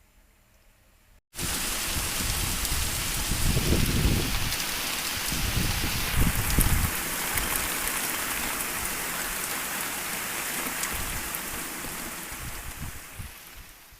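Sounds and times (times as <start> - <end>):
rain falling: 1.3 - 13.9.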